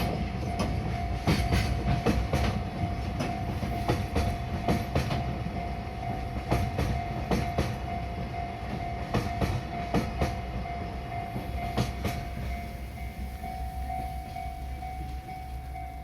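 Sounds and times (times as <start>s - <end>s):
train wheels clicking over rail joint: 0.0s - 10.5s, 11.3s - 16.0s
level-crossing warning bell: 0.0s - 16.0s.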